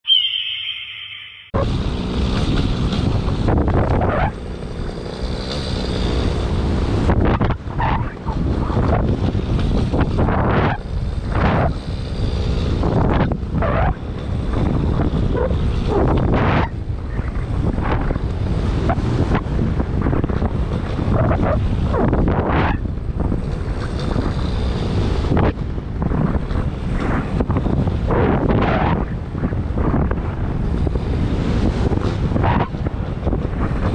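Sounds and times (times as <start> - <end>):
wind buffeting microphone: 1.6 - 5.1, 6.0 - 33.9
paramotor engine and propeller: 1.6 - 33.9.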